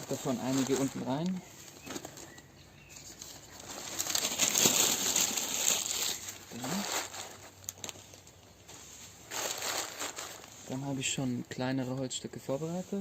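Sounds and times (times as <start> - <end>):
newspaper being crumpled: 0.0 - 11.6.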